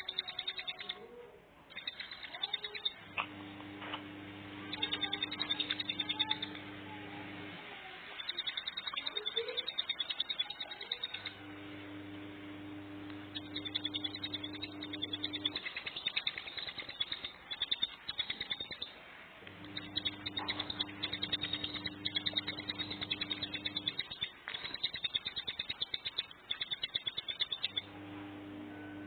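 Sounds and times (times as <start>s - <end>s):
bird song of fast sharp ticks: 0.0s - 1.0s, 1.7s - 3.4s, 4.6s - 6.8s, 8.2s - 11.6s, 12.9s - 28.7s
low electrical hum: 0.0s - 29.0s.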